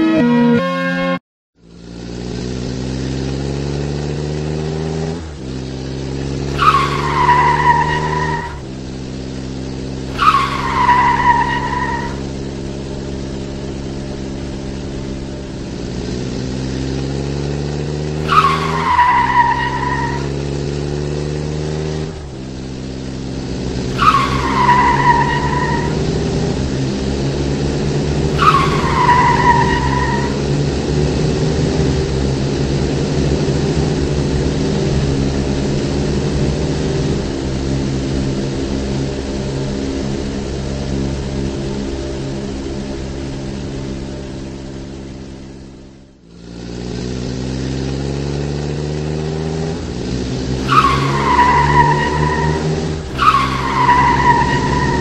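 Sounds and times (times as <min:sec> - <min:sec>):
car engine running: 0:00.0 - 0:55.0
tire screeches: 0:02.0 - 0:45.7, 0:46.3 - 0:55.0.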